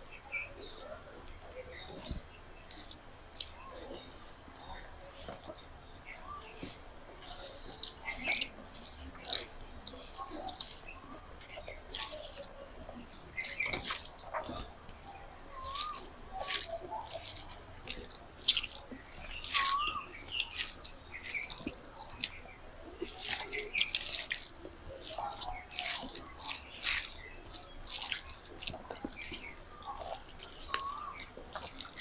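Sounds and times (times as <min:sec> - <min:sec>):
chewing and lip smacks: 0:00.6 - 0:32.0
fingers squelching rice: 0:00.7 - 0:32.0.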